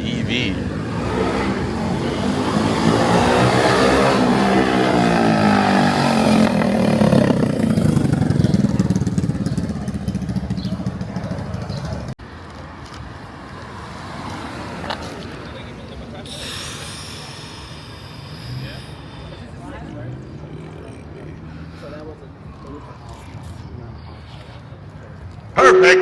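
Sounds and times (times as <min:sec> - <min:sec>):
vehicle engine driving past: 0:00.0 - 0:12.1, 0:13.8 - 0:24.8
street noise: 0:00.0 - 0:26.0.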